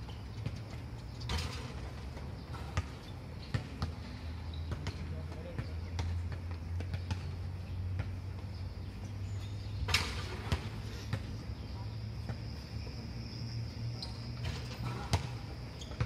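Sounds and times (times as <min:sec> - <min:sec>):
basketballs bouncing: 0:00.0 - 0:09.0, 0:09.8 - 0:13.0, 0:14.0 - 0:16.0.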